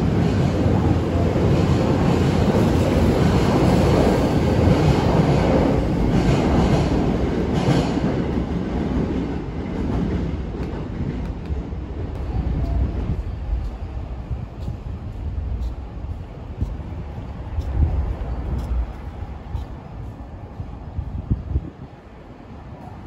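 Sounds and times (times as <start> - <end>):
train wheels rumbling and clacking: 0.0 - 22.8.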